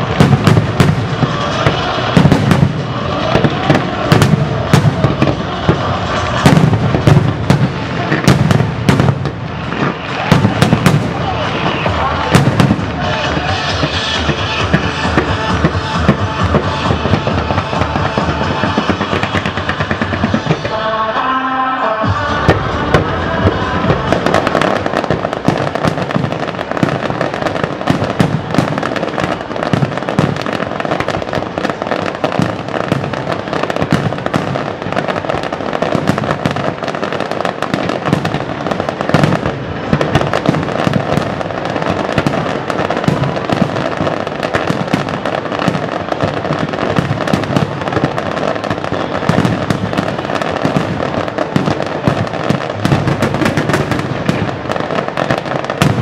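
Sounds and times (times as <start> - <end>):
fireworks pops crackles and bangs: 0.0 - 21.3, 22.2 - 56.0.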